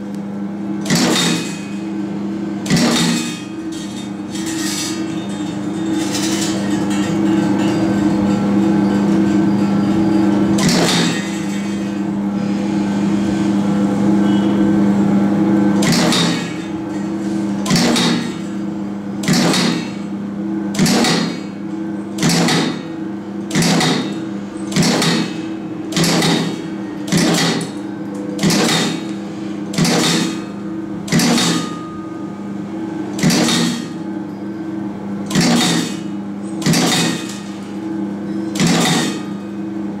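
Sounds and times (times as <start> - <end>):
motor hum: 0.0 - 40.0.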